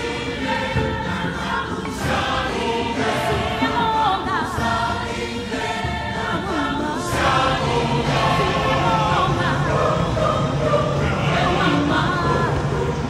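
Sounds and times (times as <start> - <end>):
choir singing: 0.0 - 13.0
low musical accompaniment: 0.0 - 13.0.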